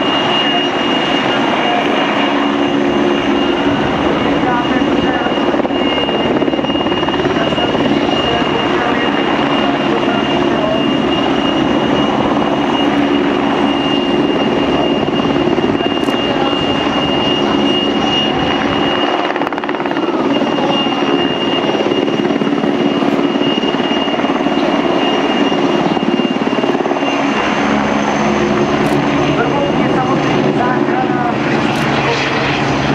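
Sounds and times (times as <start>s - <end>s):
helicopter rotor and engine: 0.0s - 32.9s
high turbine whine: 0.0s - 32.9s.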